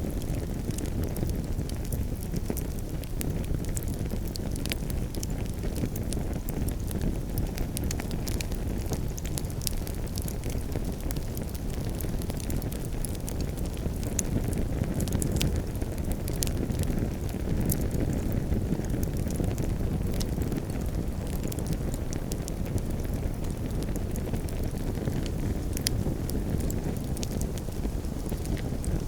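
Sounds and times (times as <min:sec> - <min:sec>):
campfire pops and snaps: 0:00.0 - 0:29.0.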